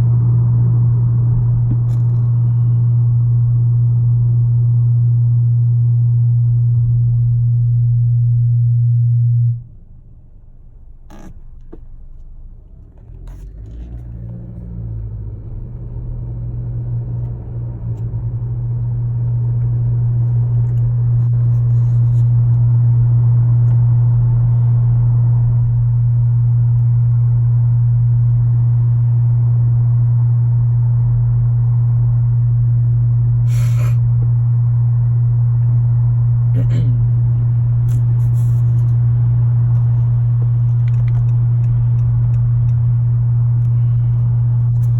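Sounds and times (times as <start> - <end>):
car engine low hum: 0.0 - 44.9.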